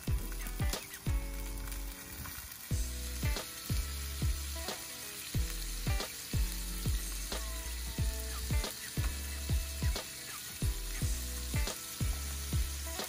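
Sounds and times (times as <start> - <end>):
music with thumping beat: 0.0 - 1.8, 2.7 - 13.0
steaks sizzling on grill pan: 0.0 - 13.0.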